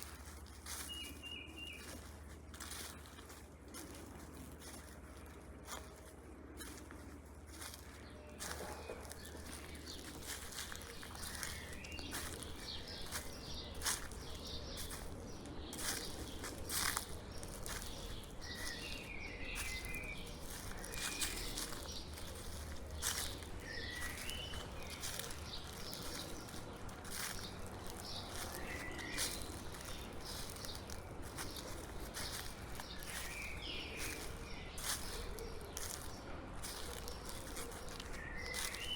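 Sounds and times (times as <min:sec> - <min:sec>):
footsteps crunching dry leaves: 0:00.0 - 0:38.9
bird chirping: 0:00.7 - 0:02.9, 0:07.6 - 0:38.9.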